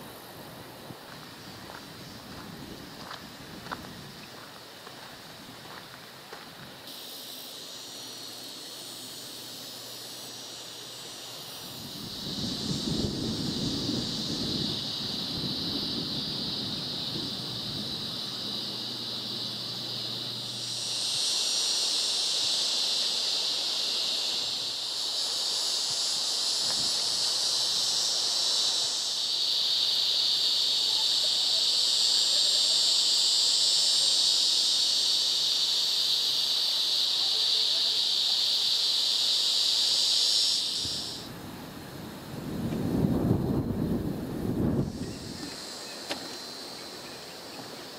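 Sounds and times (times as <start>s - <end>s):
insect chorus buzzing: 0.0s - 47.9s.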